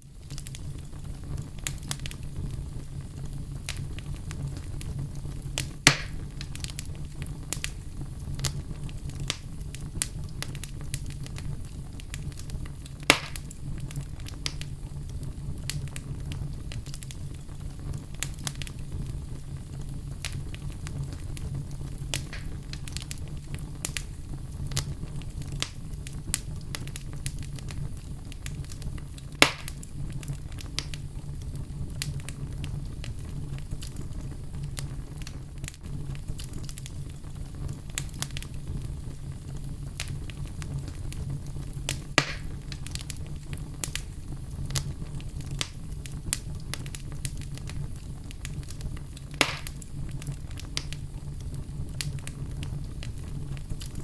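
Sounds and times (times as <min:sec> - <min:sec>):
fire rumbling and crackling: 0:00.0 - 0:54.0
loud fire pops: 0:00.0 - 0:54.0.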